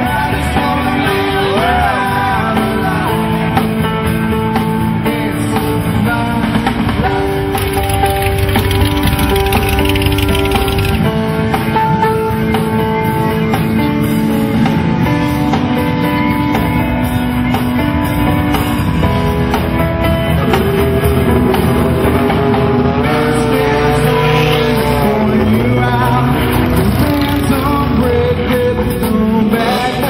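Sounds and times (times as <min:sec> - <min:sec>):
rock band playing: 0:02.8 - 0:30.0.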